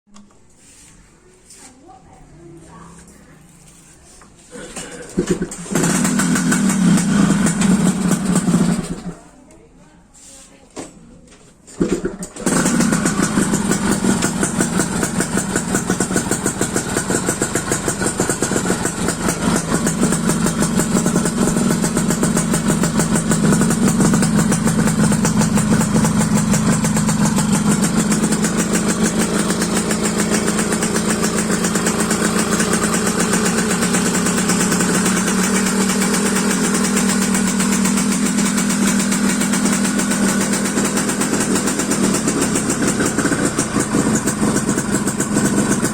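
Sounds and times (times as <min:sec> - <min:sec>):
two-stroke engine idling: 0:04.6 - 0:09.3, 0:11.8 - 0:45.9.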